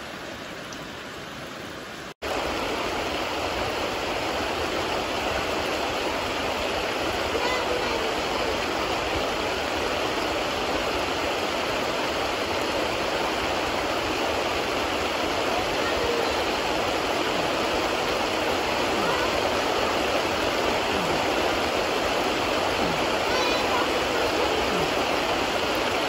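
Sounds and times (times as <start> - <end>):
falling rain: 0.0 - 26.0
fast-flowing river rushing: 0.0 - 26.0.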